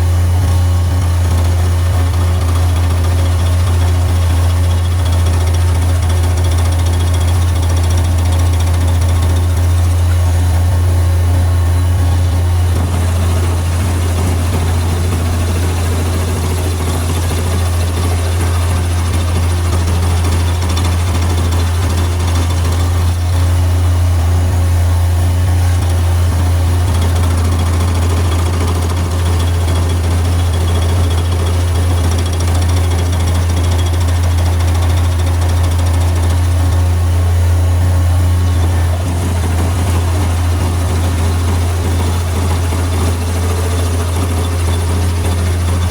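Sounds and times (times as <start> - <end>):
engine running under load: 0.0 - 45.9
stump grinder chipping stump: 0.0 - 45.9.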